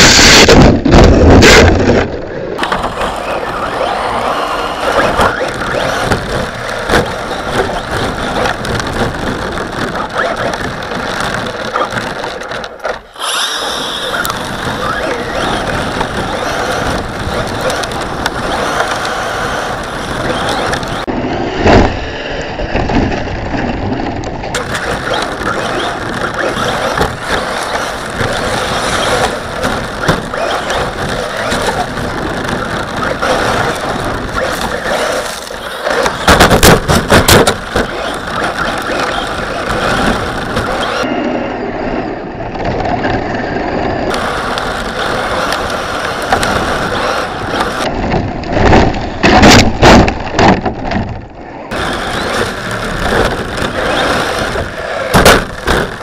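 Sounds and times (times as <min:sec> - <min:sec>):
rc car drivetrain rumble and rattle: 0:00.0 - 0:56.0
rc car knocking against snow: 0:00.1 - 0:22.0, 0:22.7 - 0:41.1, 0:43.9 - 0:56.0.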